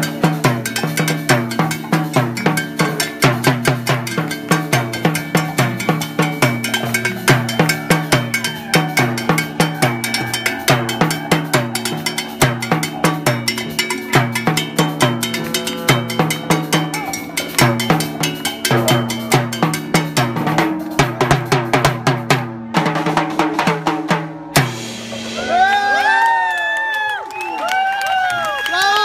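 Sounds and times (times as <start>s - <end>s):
congas and timbales playing: 0.0s - 29.0s.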